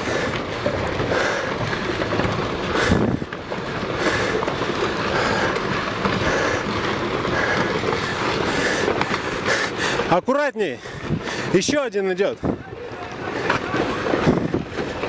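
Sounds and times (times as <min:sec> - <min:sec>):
rocks tumbling down a slope: 0:00.0 - 0:15.0.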